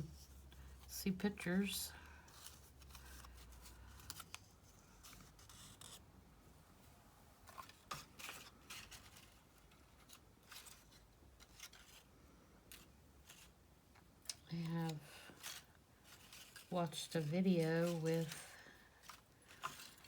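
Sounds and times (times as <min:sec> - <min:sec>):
paper rustling and scraping: 0:01.4 - 0:06.0, 0:07.4 - 0:13.6, 0:14.5 - 0:20.0.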